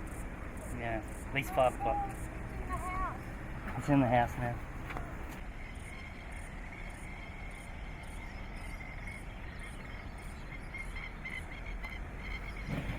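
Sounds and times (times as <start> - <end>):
faint high uneven chirping: 0.0 - 12.9
insects chirping in pulses: 0.0 - 12.9
low background rush: 0.0 - 12.9.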